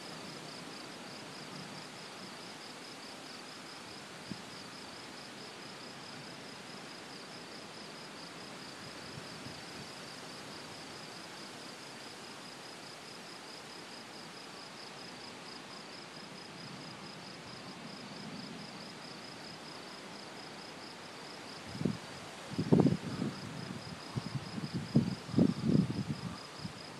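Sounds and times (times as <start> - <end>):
insects chirping: 0.0 - 26.9
steady hiss: 0.0 - 26.9.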